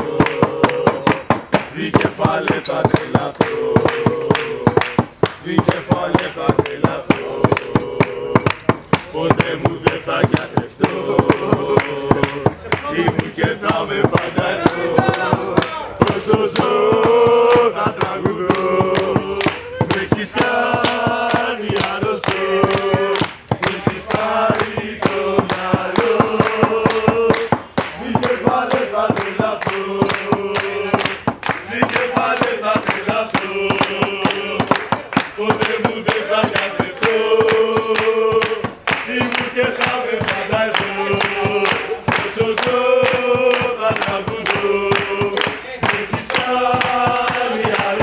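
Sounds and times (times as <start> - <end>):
men chanting in unison: 0.0 - 48.0
rhythmic hand-clapping: 0.0 - 48.0.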